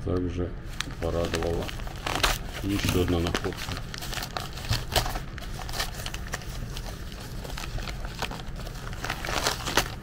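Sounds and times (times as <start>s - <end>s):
plastic bag crinkling: 0.7s - 10.0s.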